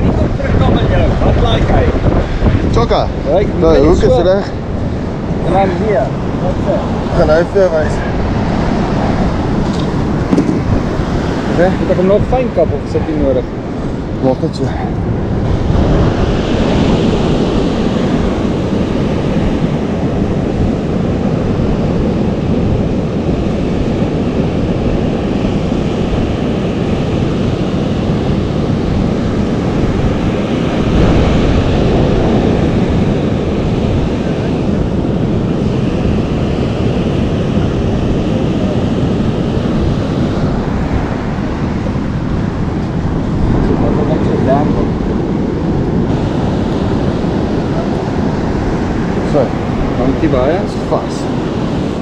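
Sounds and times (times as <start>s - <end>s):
surf washing on shore: 0.0s - 52.0s
wind buffeting microphone: 0.0s - 52.0s.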